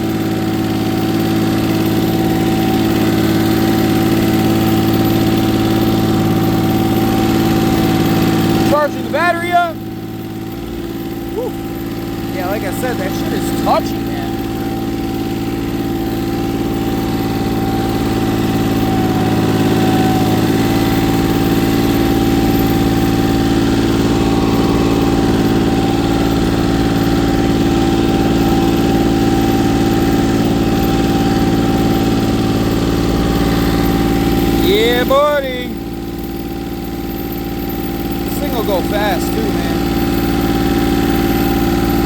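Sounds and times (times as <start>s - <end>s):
thin steady whine: 0.0s - 42.0s
tractor diesel engine running: 0.0s - 42.0s.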